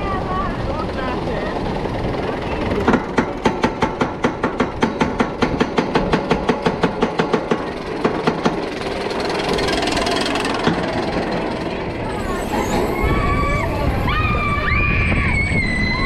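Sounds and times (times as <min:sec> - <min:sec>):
roller coaster chain clacking: 0:00.0 - 0:16.0.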